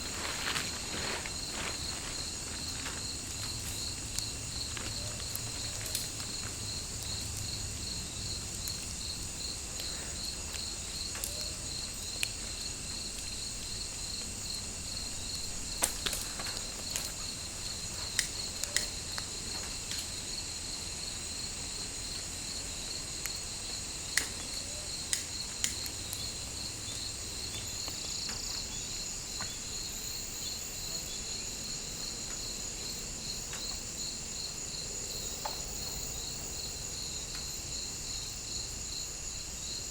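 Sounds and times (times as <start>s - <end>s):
insects buzzing: 0.0s - 39.9s
insects chirping: 0.0s - 39.9s.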